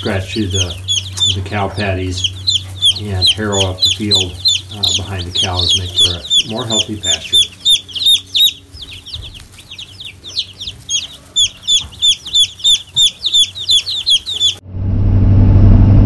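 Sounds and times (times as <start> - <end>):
chicks peeping: 0.0 - 14.6.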